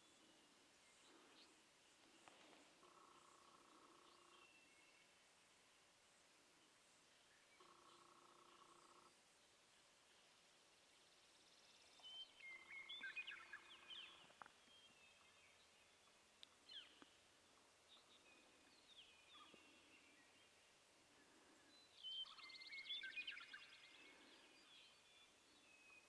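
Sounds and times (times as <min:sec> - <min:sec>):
songbirds trilling and chirping: 0:00.0 - 0:26.0.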